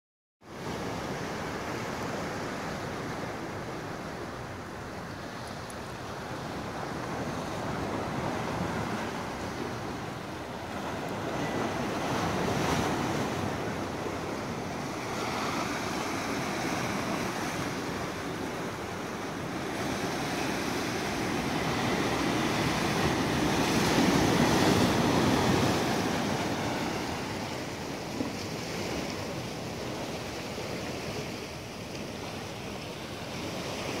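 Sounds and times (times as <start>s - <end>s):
ocean surf breaking on rocks: 0.6s - 34.0s.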